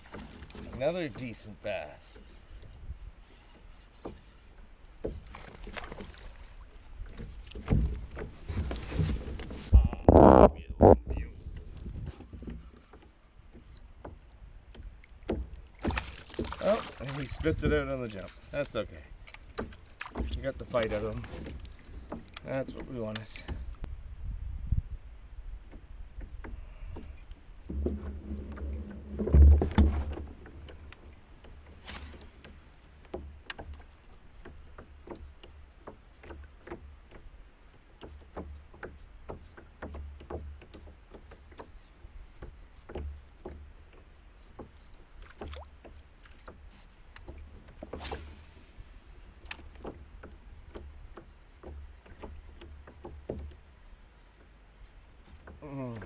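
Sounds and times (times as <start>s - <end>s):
waves lapping against plastic hull: 0.0s - 23.9s, 25.4s - 56.0s.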